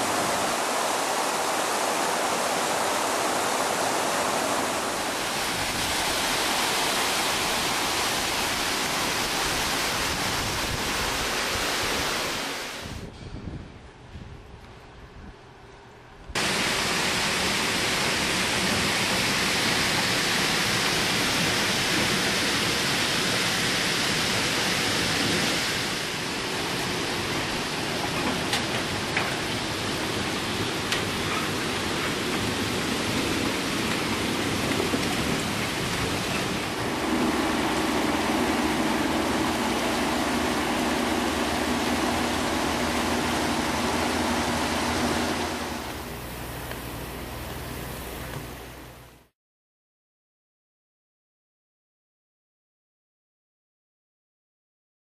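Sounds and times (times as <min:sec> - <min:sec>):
water rushing: 0:00.0 - 0:13.0, 0:16.4 - 0:49.0.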